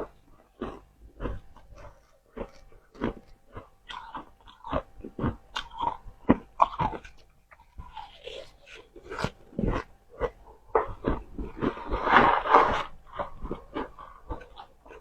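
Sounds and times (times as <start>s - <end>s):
frost crunching being chewed: 0.0s - 15.0s.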